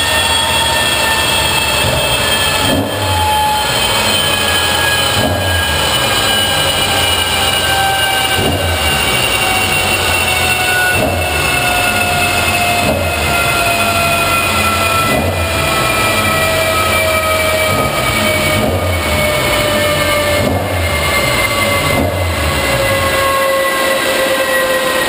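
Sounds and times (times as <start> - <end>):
falling whine: 0.0 - 25.0
race car engine running: 0.0 - 25.0.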